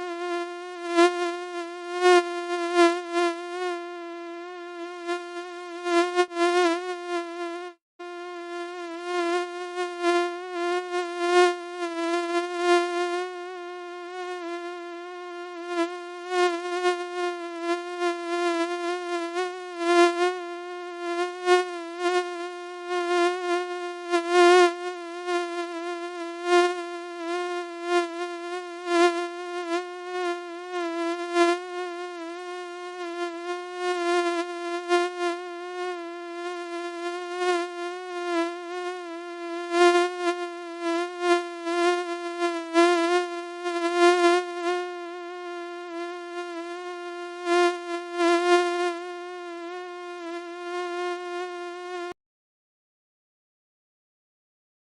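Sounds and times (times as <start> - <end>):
mosquito buzzing: 0.0 - 52.2.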